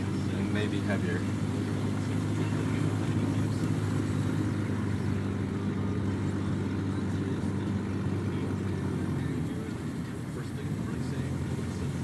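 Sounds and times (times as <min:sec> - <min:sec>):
car running heard from cabin: 0:00.0 - 0:12.0.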